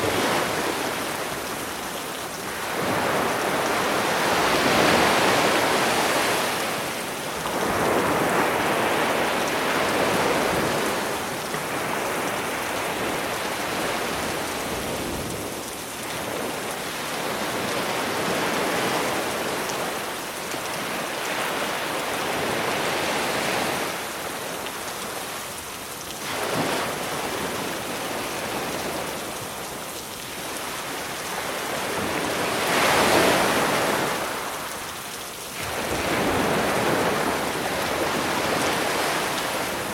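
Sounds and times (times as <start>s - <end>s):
rain falling: 0.0s - 39.9s
sea waves breaking on shore: 0.0s - 39.9s.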